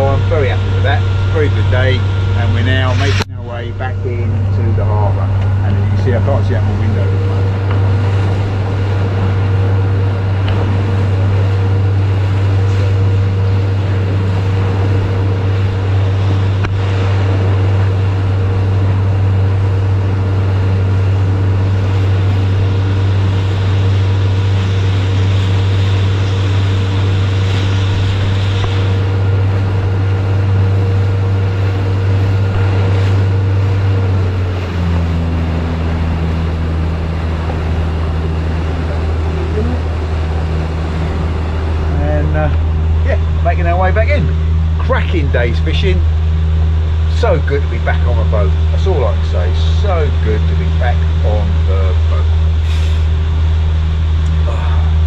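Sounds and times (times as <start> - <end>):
boat engine running: 0.0 - 55.0
water rushing over hull: 0.0 - 55.0.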